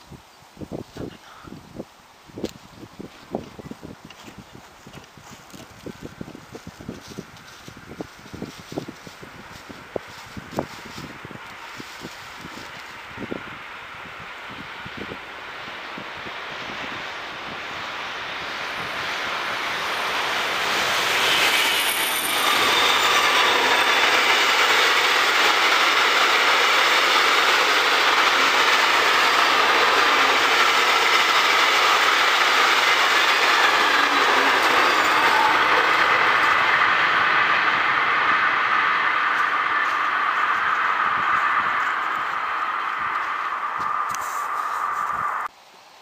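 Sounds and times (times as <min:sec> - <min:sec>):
train passing on rails: 0:01.8 - 0:45.6.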